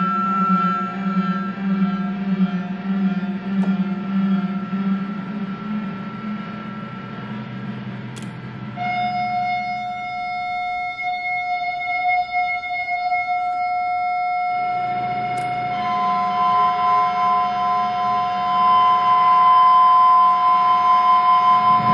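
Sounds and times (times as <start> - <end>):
high feedback tone: 0.0 - 21.9
low droning hum: 0.0 - 21.9.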